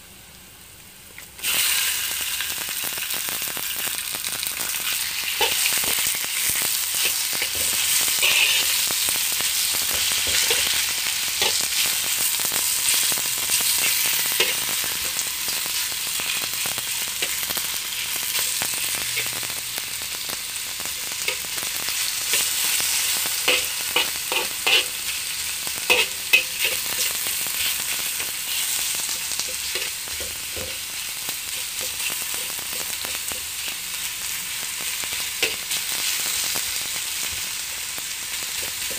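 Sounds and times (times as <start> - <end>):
meat sizzling in a wok: 0.0 - 38.9.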